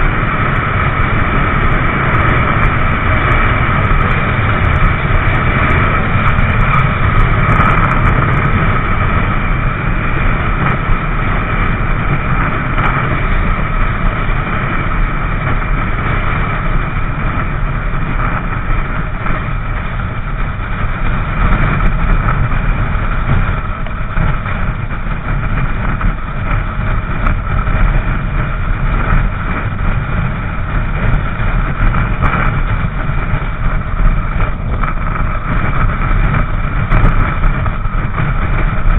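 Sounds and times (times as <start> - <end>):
motorcycle engine: 0.0 - 38.9
road noise: 0.0 - 38.9
wind rumble on microphone: 0.0 - 38.9.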